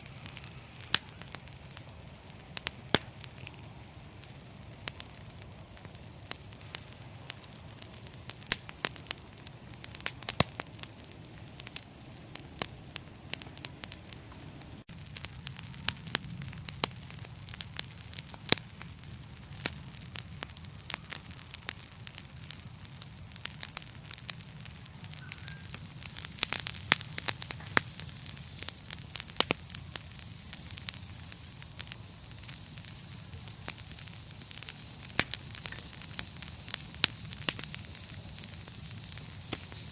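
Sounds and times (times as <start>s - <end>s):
fire crackling and popping: 0.0s - 39.9s
low rumble and hiss of flames: 0.0s - 39.9s.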